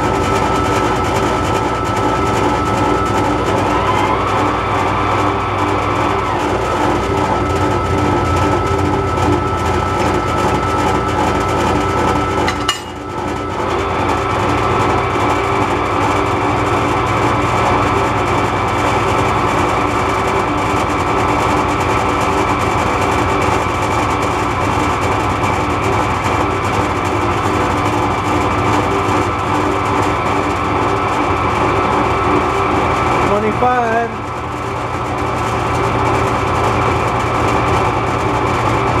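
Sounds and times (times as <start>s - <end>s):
metal lathe cutting: 0.0s - 39.0s.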